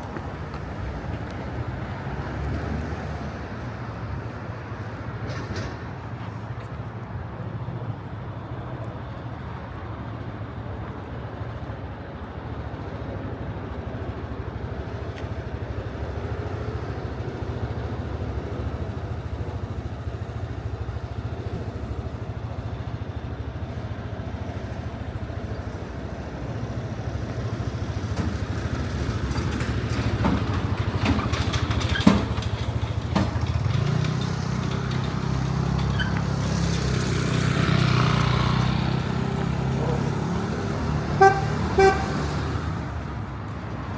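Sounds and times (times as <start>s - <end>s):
road traffic rumble: 0.0s - 43.9s
vehicle approaching: 0.0s - 43.9s.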